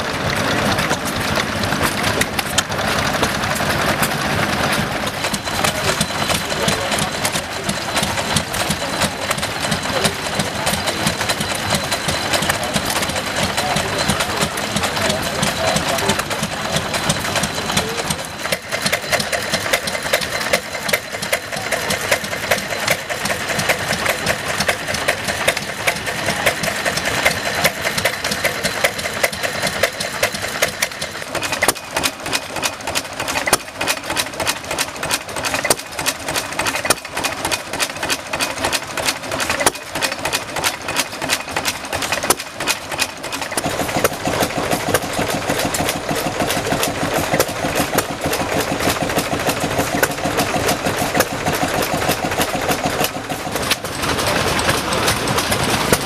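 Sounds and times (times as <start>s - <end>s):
engine with fuller lower sound: 0.0s - 56.0s
engine with sharp even beats: 0.0s - 56.0s
stationary engine clattering: 0.0s - 56.0s.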